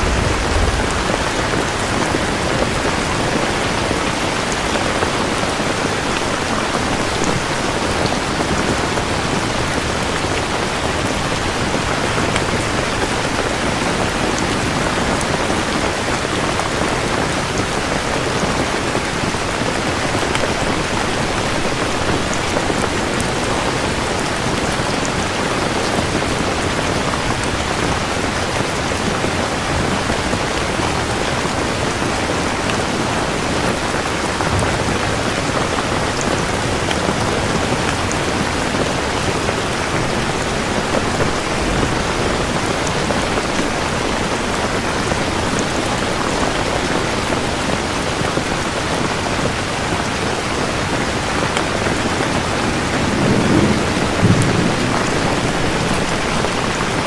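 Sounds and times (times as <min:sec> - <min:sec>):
thunder rumbling: 0:00.0 - 0:24.5, 0:28.9 - 0:47.7, 0:51.9 - 0:57.0
rain falling: 0:00.0 - 0:57.0.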